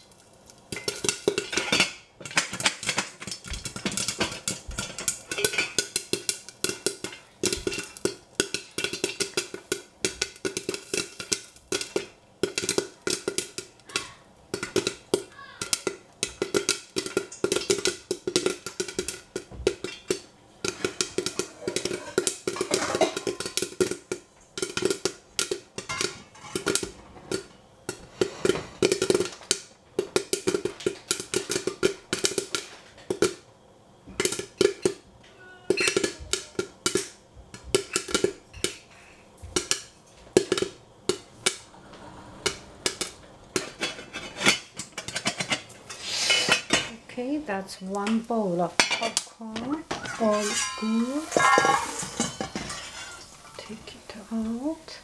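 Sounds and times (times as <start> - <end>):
popcorn popping in a pot: 0.0 - 55.0.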